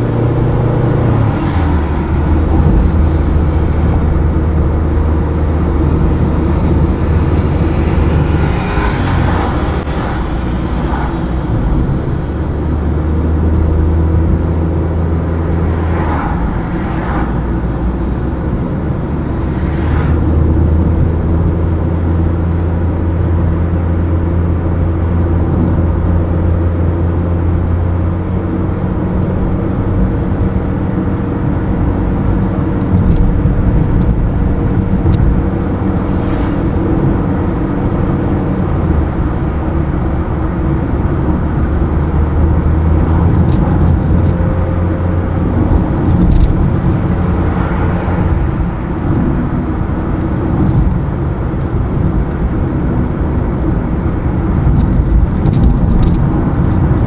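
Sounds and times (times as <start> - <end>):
car engine humming: 0.0 - 57.0
tyre and road noise: 0.0 - 57.0.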